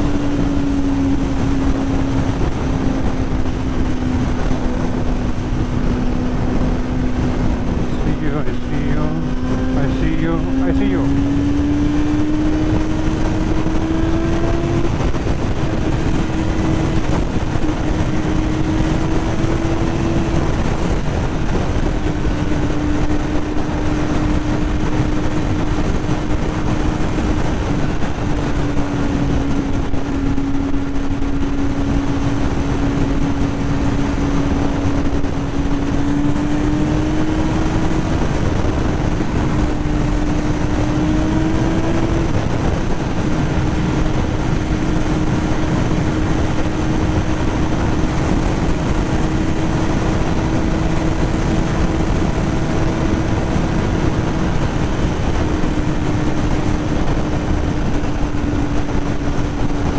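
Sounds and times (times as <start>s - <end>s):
motorcycle engine cruising: 0.0s - 59.9s
wind rush on microphone: 0.0s - 59.9s.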